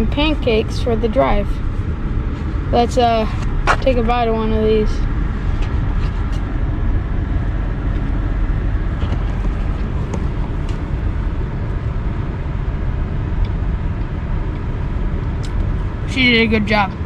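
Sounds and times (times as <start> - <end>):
road rumble inside car: 0.0 - 17.0.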